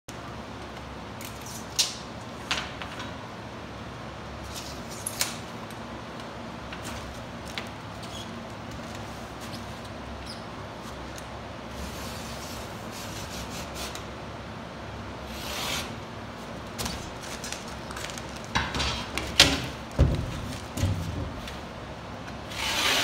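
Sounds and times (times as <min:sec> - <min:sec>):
low background hum: 0:00.1 - 0:23.0.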